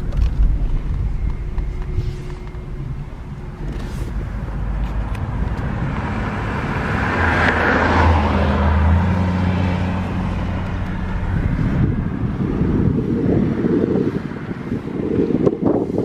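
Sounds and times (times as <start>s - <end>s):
tyre road rush: 0.0s - 16.0s
vehicle engine hum: 0.0s - 16.0s.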